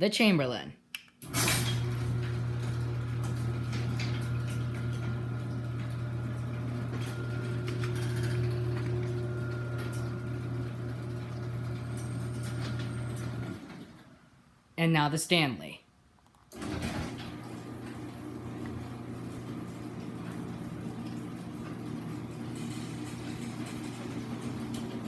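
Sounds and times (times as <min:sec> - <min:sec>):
garage door opener motor hum: 0:01.2 - 0:14.3, 0:16.5 - 0:25.0.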